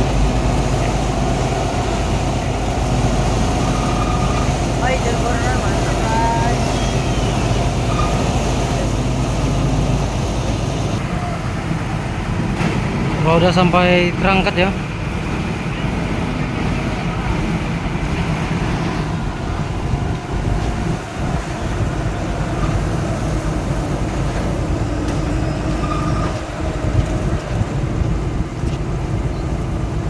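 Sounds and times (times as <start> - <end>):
heavy vehicle engine rumbling: 0.0 - 30.0.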